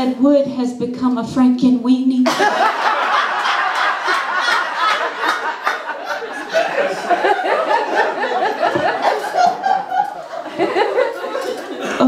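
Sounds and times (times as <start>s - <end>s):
audience laughing: 2.3s - 12.0s.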